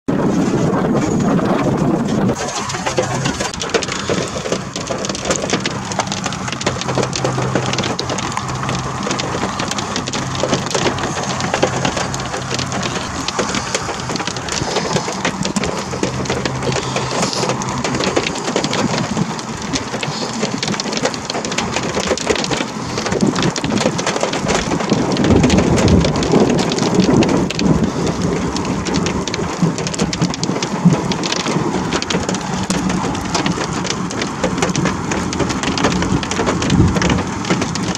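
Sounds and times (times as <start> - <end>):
deep rumble of thunder: 0.1 - 37.9
heavy rain falling: 0.1 - 37.9.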